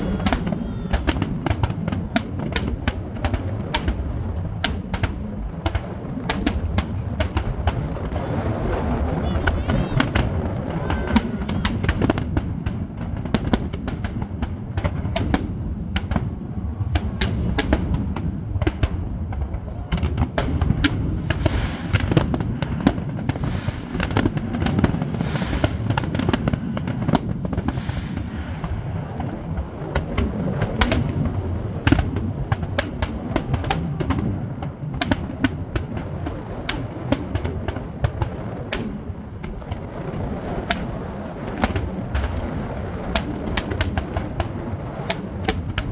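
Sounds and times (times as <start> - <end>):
fireworks cracks and pops: 0.0 - 45.9
fireworks rumble: 0.0 - 45.9.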